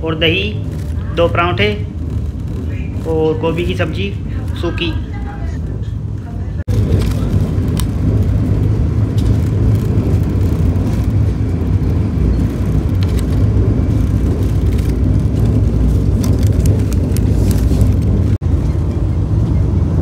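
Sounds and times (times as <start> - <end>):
train rumble inside coach: 0.0 - 20.0.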